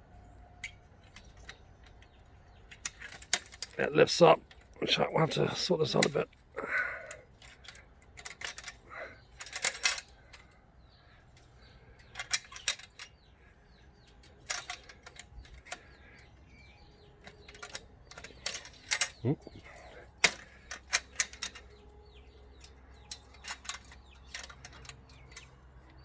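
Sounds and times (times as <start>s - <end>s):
metal latch clinking and rattling: 0.5s - 26.0s.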